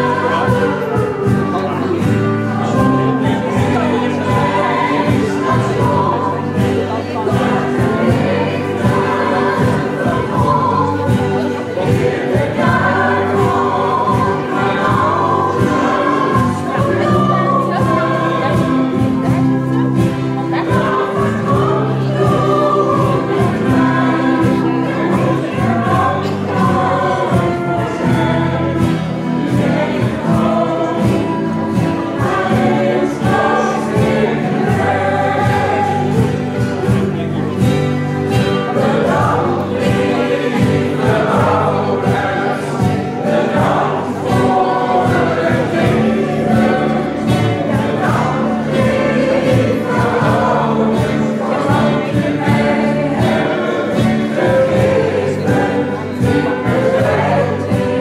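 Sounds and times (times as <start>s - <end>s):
choir singing in chorus: 0.0s - 58.0s
percussion keeping a steady beat: 0.0s - 58.0s
small band with guitars: 0.0s - 58.0s.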